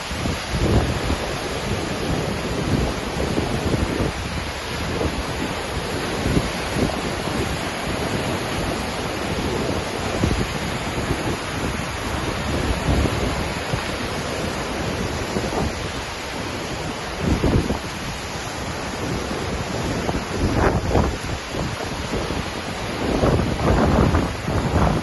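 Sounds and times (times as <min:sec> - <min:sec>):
waterfall roaring: 0:00.0 - 0:25.0
wind buffeting microphone: 0:00.0 - 0:25.0.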